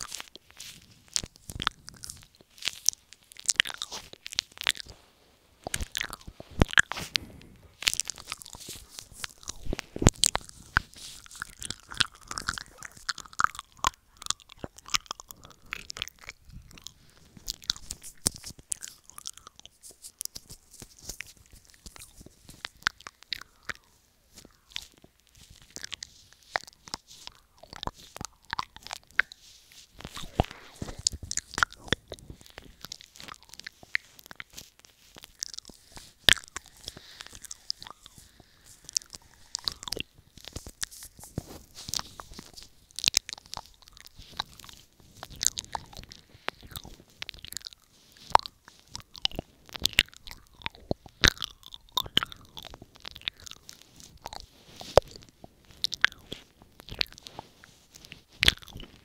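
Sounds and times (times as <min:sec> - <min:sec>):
wet mouth sounds: 0:00.0 - 0:59.0.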